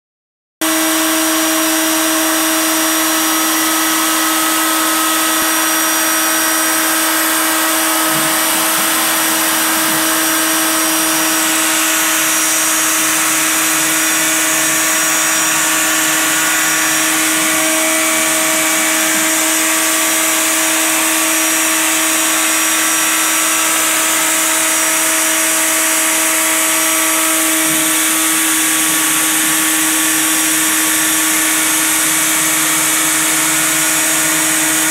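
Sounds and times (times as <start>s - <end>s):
hiss of cutting plastic: 0.6s - 34.9s
router spindle whine: 0.6s - 34.9s.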